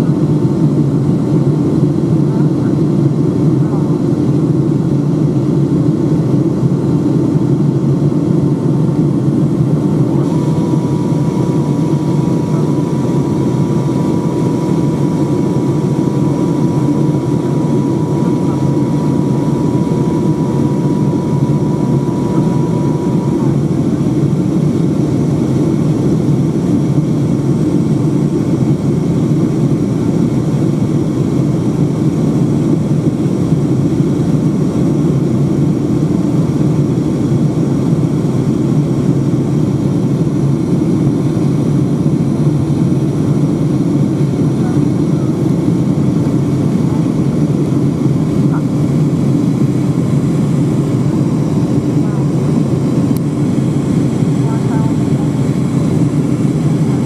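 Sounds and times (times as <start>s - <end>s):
faint steady whine: 0.0s - 57.0s
jet engine and airflow rumble: 0.0s - 57.0s.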